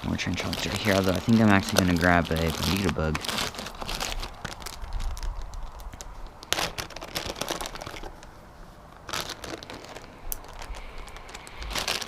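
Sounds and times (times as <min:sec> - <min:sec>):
plastic packaging crinkling: 0:00.0 - 0:08.3, 0:08.9 - 0:12.0.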